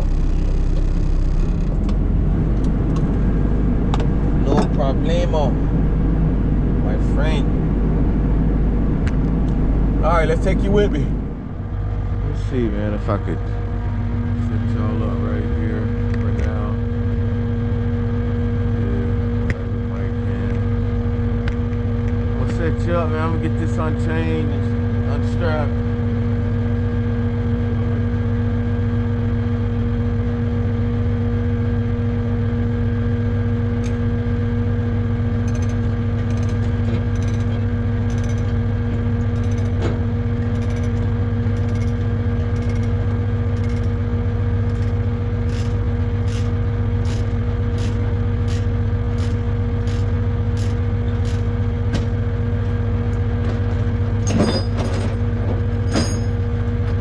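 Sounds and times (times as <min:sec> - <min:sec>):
diesel truck engine idling: 0:00.0 - 0:26.8, 0:31.2 - 0:54.2.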